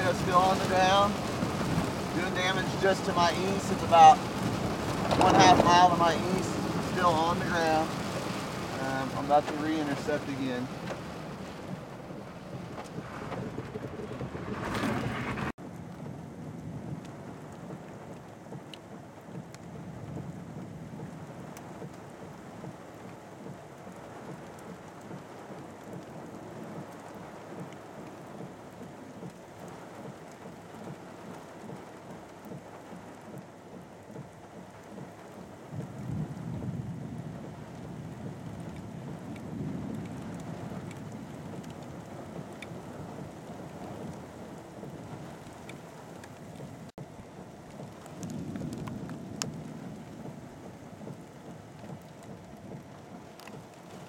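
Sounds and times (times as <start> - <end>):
rain and storm from inside vehicle: 0.0 - 54.0.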